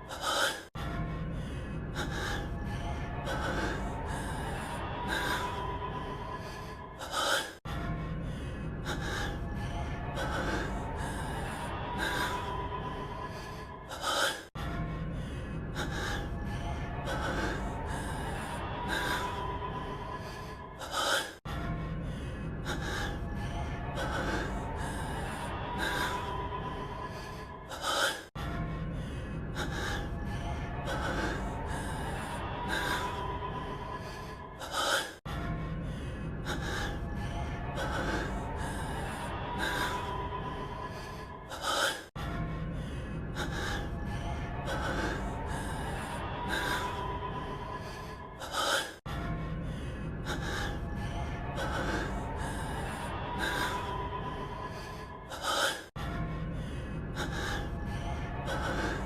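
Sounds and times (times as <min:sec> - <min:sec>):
man breathing heavily: 0:00.0 - 0:59.0
steady low background: 0:00.0 - 0:59.0.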